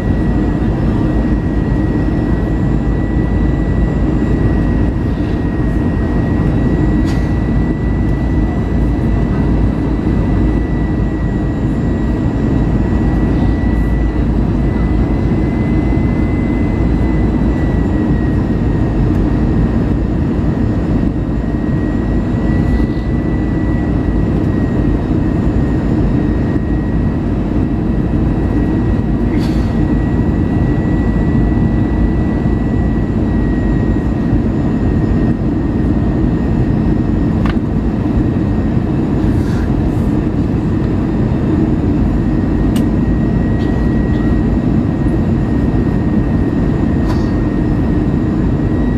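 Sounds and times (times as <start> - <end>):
airplane cabin roar: 0.0 - 48.9
thin steady whine: 0.0 - 48.9.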